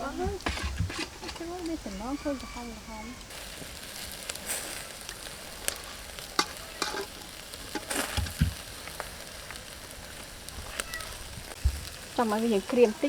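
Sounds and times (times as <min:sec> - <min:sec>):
meat sizzling on a barbecue: 0:00.0 - 0:13.0.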